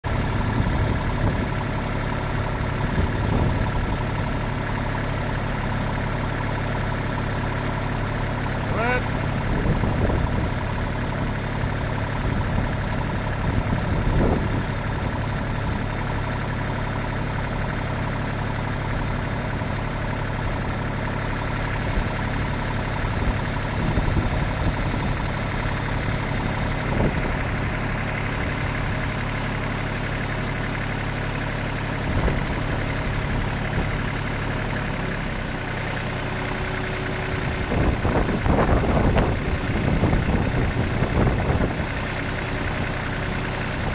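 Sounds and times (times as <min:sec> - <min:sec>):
lawn mower engine idling: 0:00.0 - 0:43.9.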